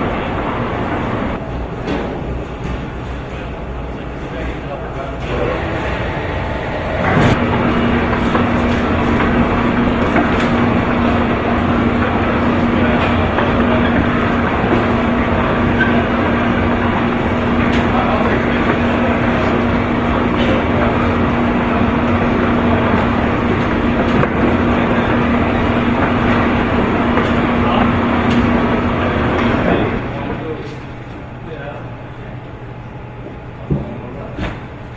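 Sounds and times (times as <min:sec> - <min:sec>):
conveyor belt clack: 0:00.0 - 0:34.9
conveyor motor hum: 0:00.0 - 0:34.9.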